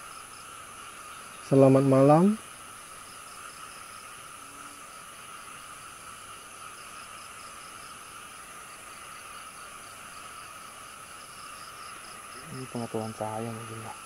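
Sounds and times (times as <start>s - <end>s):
cricket chirping: 0.0s - 14.0s
insects buzzing drone: 0.0s - 14.0s.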